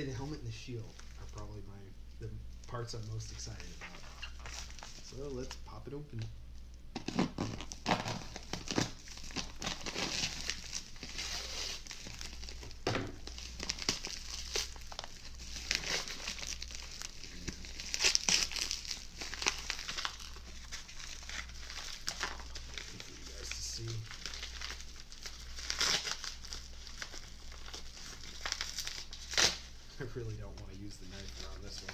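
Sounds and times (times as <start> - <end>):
bubble wrap crinkling: 0.0 - 1.7, 2.6 - 31.9.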